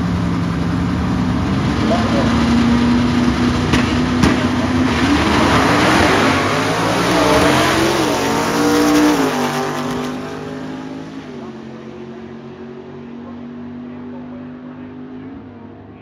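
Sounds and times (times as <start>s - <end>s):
drag car engine revving: 0.0s - 15.8s.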